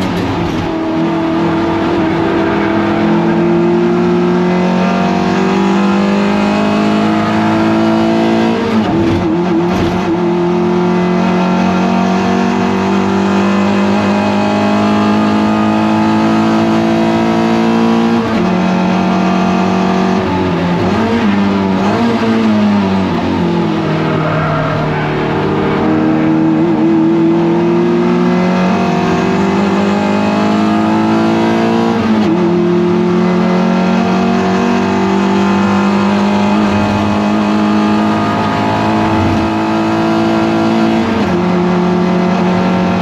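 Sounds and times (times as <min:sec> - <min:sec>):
race car engine under load: 0:00.0 - 0:43.0.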